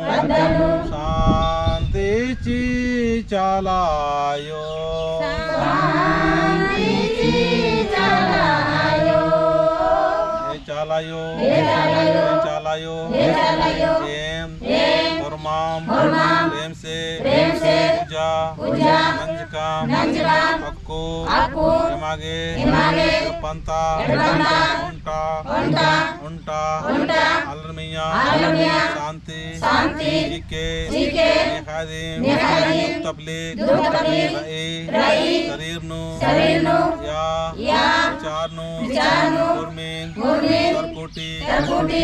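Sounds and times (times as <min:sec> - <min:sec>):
man and women singing: 0:00.0 - 0:42.0.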